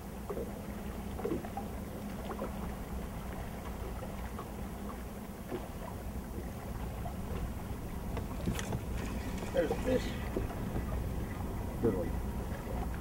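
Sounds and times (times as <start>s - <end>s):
faint hum: 0.0s - 13.0s
water noise around boat: 0.0s - 13.0s
wind: 0.0s - 13.0s.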